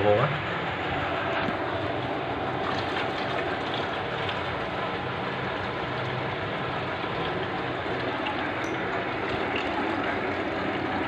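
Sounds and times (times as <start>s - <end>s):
water running from a hose: 0.0s - 11.0s.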